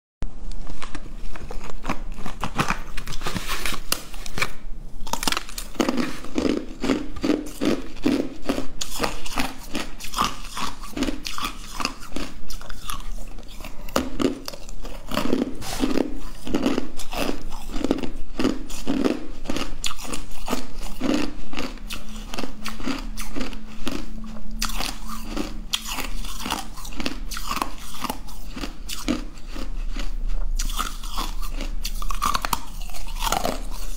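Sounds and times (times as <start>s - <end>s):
ice being crunched and chewed: 0.6s - 33.9s.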